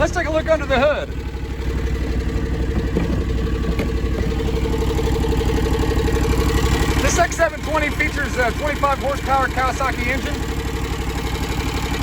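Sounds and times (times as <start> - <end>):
garden tractor engine running: 0.0 - 12.0.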